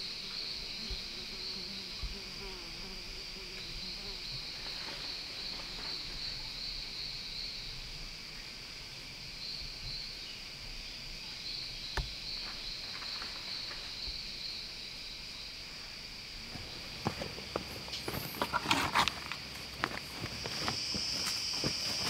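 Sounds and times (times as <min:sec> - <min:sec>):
insects trilling chorus: 0:00.0 - 0:22.0.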